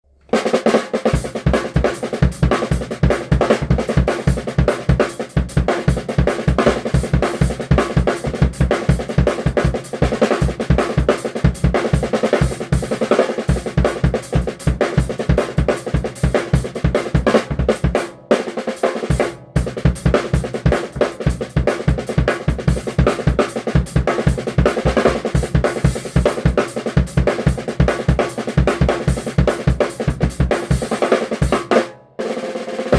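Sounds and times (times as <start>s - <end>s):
drum kit groove: 0.3s - 32.9s.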